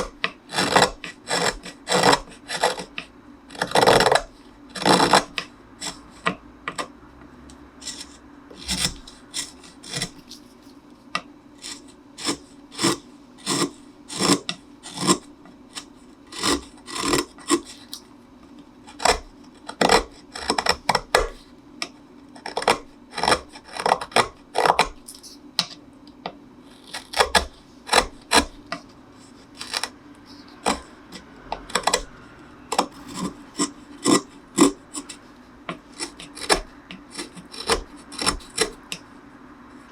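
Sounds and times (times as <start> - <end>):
hand tools scraping wood: 0.0 - 6.9, 7.5 - 10.8, 11.6 - 18.0, 18.9 - 21.5, 22.4 - 25.8, 26.7 - 39.0
steady low hum: 0.0 - 39.9.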